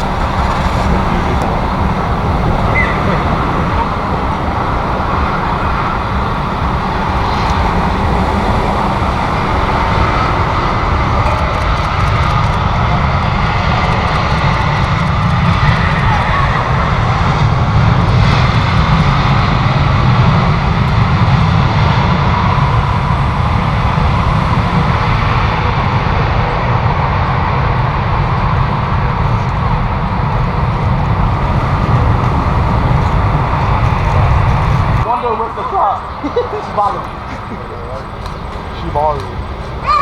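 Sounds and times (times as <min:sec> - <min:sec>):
jet airliner engines rumbling: 0:00.0 - 0:40.0.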